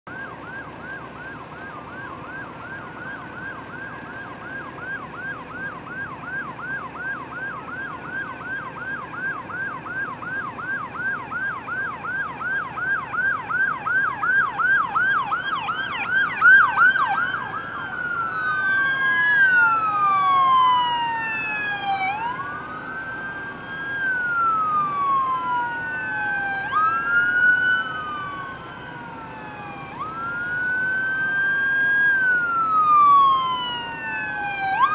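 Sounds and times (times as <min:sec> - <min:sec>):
emergency sirens yelping and wailing: 0:00.0 - 0:34.9.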